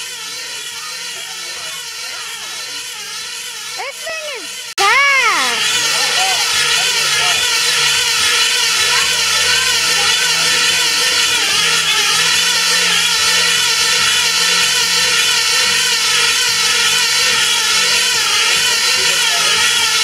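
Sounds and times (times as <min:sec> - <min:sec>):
model airplane engine whining: 0:00.0 - 0:20.0.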